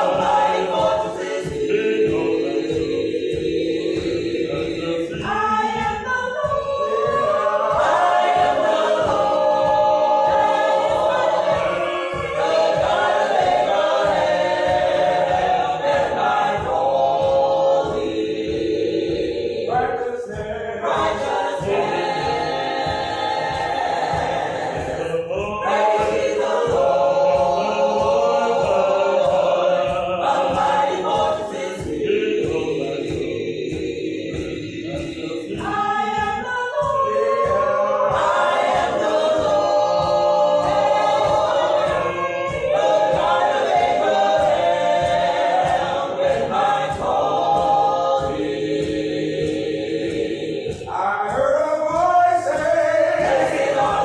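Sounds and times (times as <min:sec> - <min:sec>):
choir singing a cappella: 0:00.0 - 0:54.0
steady low beat: 0:00.0 - 0:54.0.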